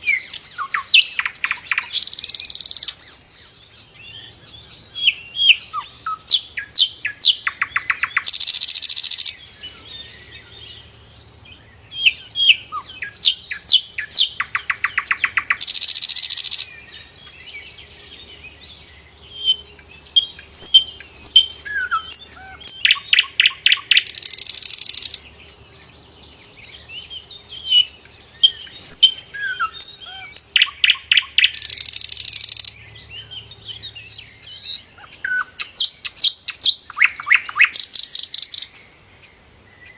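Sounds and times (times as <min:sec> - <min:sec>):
flycatcher singing: 0:00.0 - 0:38.8.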